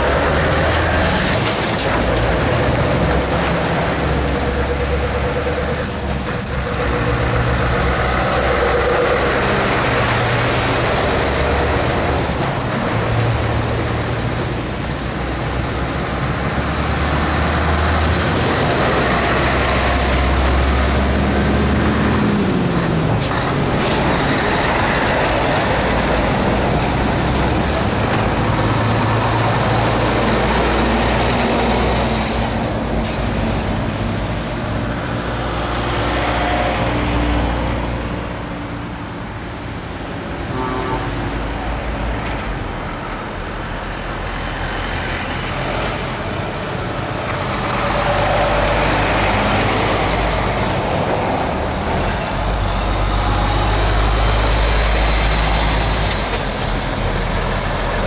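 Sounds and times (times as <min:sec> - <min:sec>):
cars passing: 0:00.0 - 0:58.0
heavy trucks driving past: 0:00.0 - 0:58.0.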